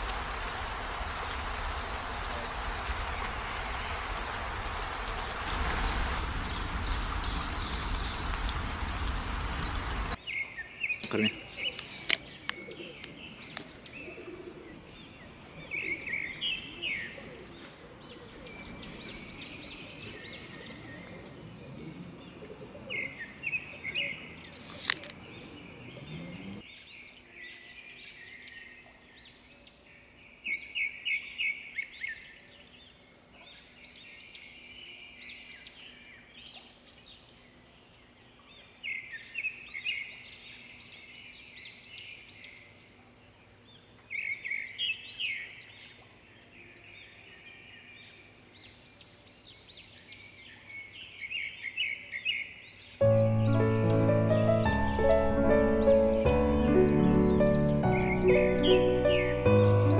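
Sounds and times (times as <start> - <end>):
birds chirping rapidly: 0.0 - 28.7, 33.6 - 59.9
background hiss: 0.0 - 59.9.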